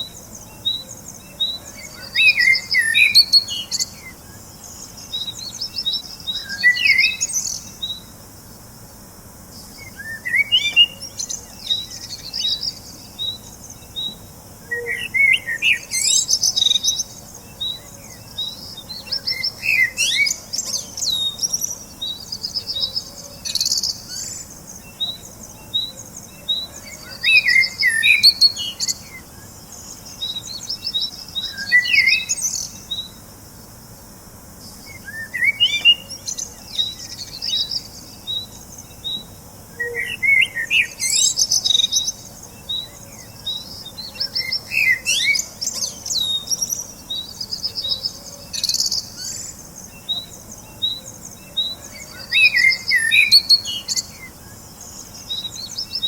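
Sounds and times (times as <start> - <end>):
bird chirping: 0.0 - 8.6, 9.5 - 33.4, 34.6 - 56.0
songbirds warbling and trilling: 0.0 - 56.0.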